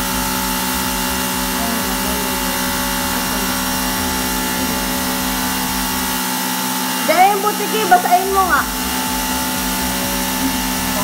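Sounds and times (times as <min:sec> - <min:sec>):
pressure washer motor humming: 0:00.0 - 0:11.0.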